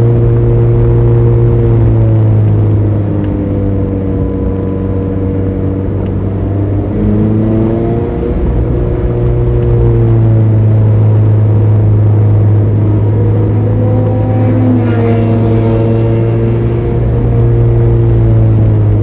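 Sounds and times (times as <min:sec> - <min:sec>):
car engine pulling under load: 0:00.4 - 0:19.0.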